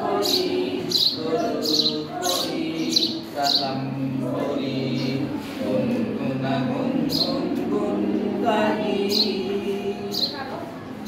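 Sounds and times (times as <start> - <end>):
man singing: 0.0 - 10.1
group of voices singing: 0.0 - 11.0.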